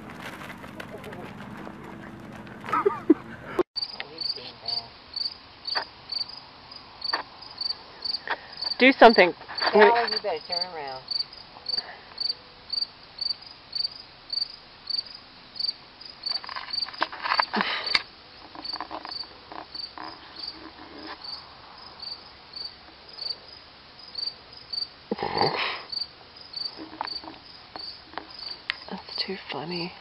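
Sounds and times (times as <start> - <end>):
cricket chirping: 3.8 - 30.0.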